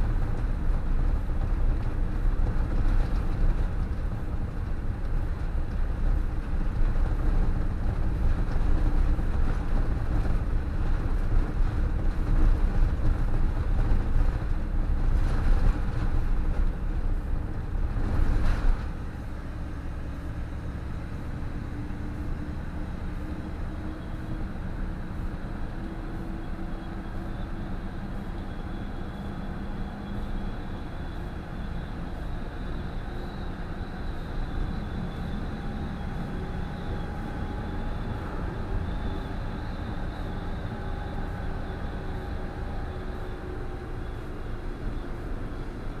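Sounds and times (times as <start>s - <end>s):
bus engine rumbling: 0.0s - 46.0s.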